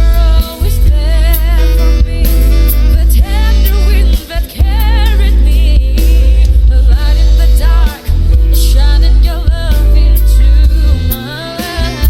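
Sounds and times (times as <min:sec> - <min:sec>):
bass-boosted pop song: 0:00.0 - 0:12.0
person singing: 0:00.0 - 0:12.0.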